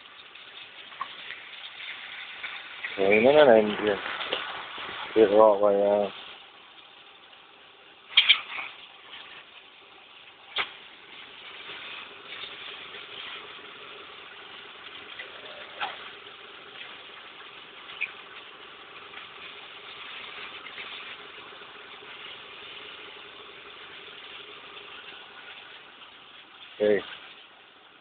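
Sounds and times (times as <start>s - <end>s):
car engine idling: 0.0s - 28.0s
faint steady hum: 0.0s - 28.0s
water spray hissing: 0.0s - 28.0s.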